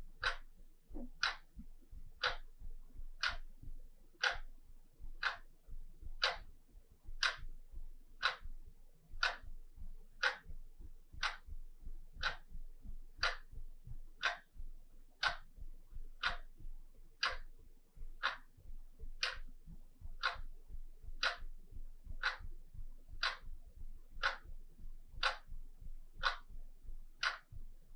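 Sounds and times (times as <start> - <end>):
wall clock ticking: 0.0 - 27.9.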